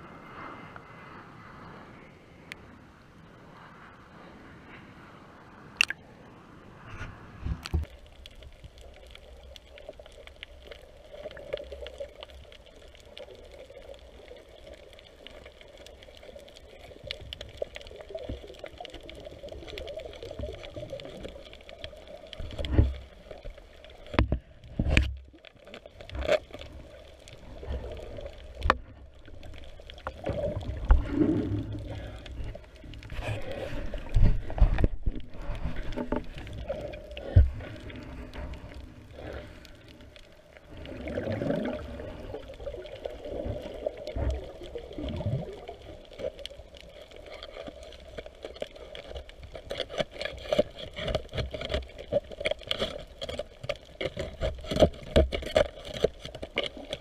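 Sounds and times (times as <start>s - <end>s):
underwater wash: 0.0s - 57.0s.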